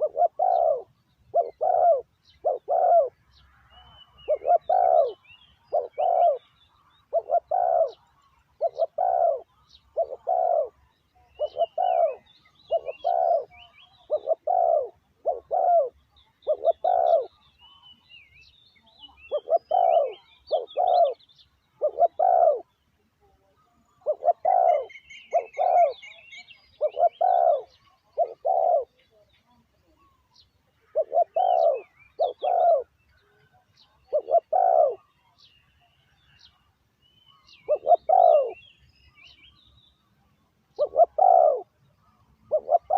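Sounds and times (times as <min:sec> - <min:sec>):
dove cooing: 0:00.0 - 0:17.9, 0:18.9 - 0:35.4, 0:37.3 - 0:38.8, 0:40.7 - 0:42.9
small birds chirping faintly: 0:00.0 - 0:42.9.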